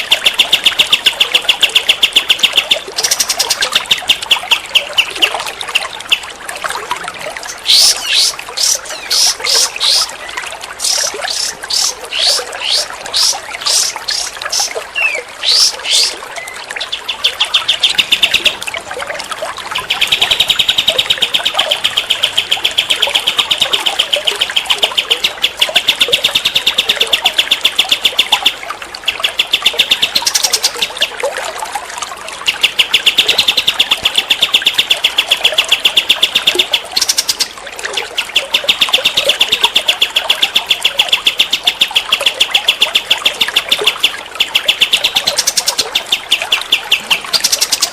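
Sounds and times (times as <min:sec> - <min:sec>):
songbird trilling: 0:00.0 - 0:06.2, 0:10.8 - 0:18.6, 0:19.7 - 0:31.2, 0:32.5 - 0:47.9.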